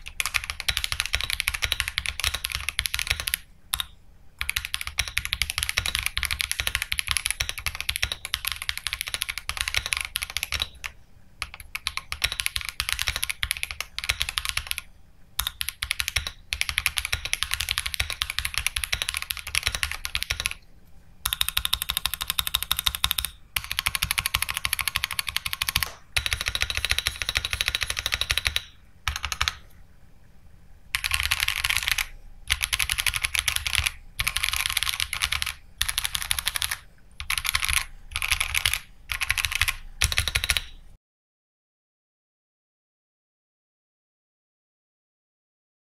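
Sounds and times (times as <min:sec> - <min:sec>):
mechanical keyboard typing: 0:00.0 - 0:20.6, 0:21.2 - 0:29.7, 0:30.9 - 0:40.8.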